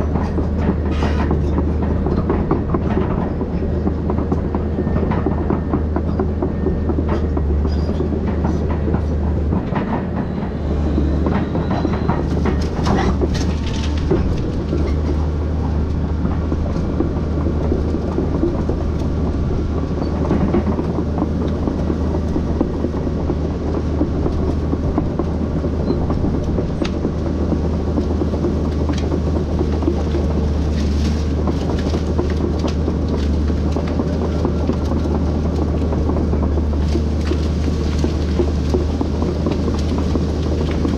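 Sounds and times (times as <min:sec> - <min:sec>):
clatter and sharp knocks: 0:00.0 - 0:40.9
excavator diesel engine running: 0:00.0 - 0:40.9.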